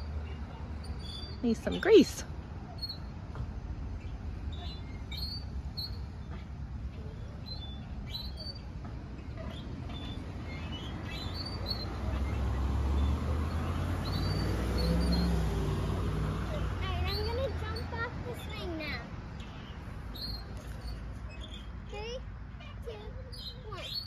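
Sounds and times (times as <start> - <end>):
swing chains squeaking: 0.0 - 15.5, 16.4 - 24.0.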